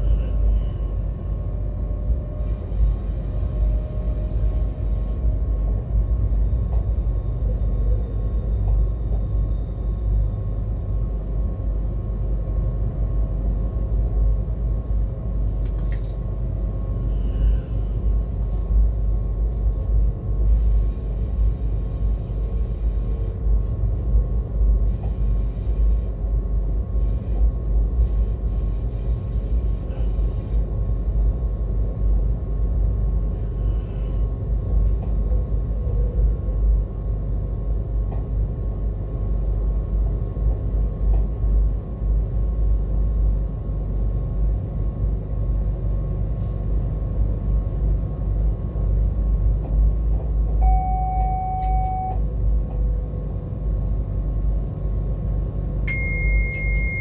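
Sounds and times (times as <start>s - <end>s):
constant hum: 0.0s - 57.0s.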